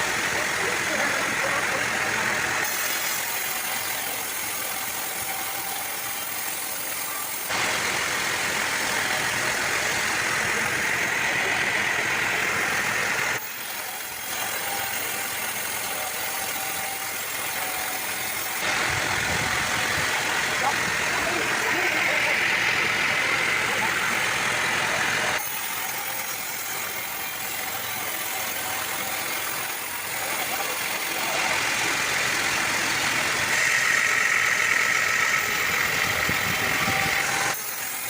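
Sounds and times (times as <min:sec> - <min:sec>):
sawmill machinery drone: 0:00.0 - 0:38.0.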